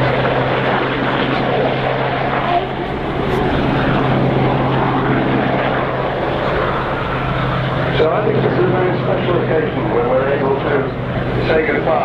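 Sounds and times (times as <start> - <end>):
helicopter running: 0.0 - 12.0.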